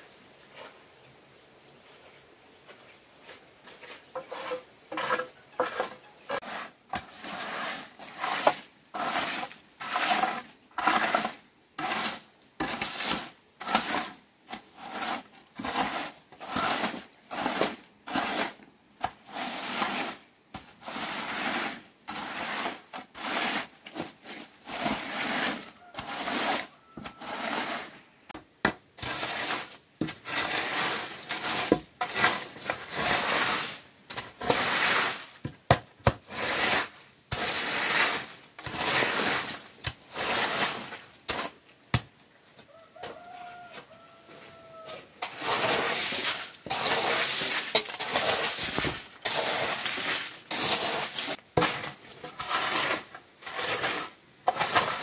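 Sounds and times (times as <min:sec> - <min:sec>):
hand tool scraping strokes: 0:03.2 - 0:55.0.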